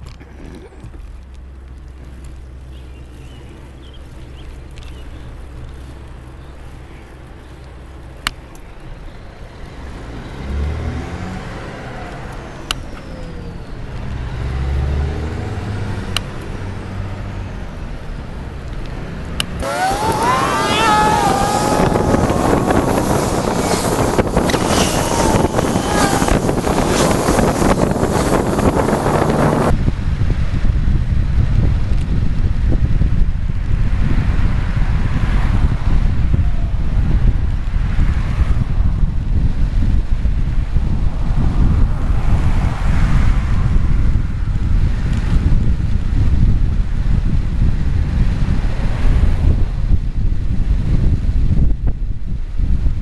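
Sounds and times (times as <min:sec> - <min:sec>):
bicycle road noise: 0:00.0 - 0:53.0
passing traffic: 0:00.0 - 0:53.0
wind noise on microphone: 0:00.0 - 0:53.0.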